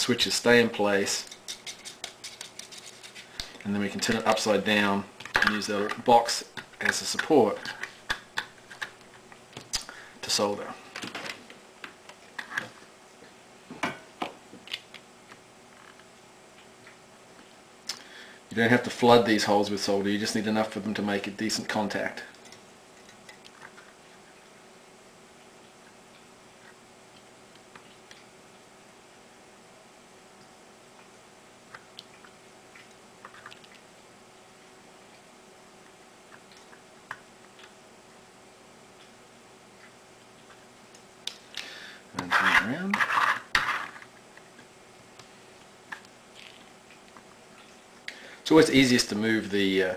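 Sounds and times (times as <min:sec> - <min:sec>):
faint hiss and hum: 0:00.0 - 0:49.9.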